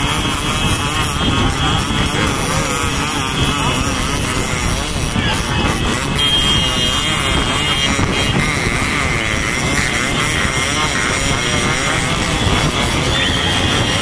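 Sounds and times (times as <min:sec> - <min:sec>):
motorcycles riding: 0:00.0 - 0:14.0
wind noise on microphone: 0:00.0 - 0:14.0.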